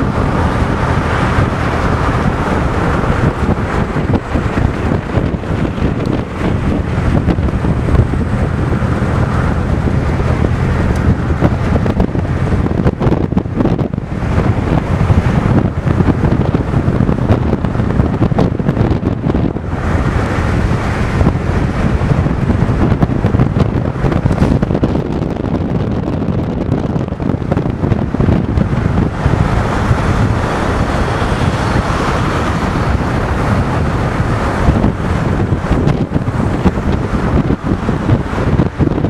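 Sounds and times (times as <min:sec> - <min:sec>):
car and tyres rumbling on road: 0:00.0 - 0:39.0
wind buffeting microphone: 0:00.0 - 0:39.0.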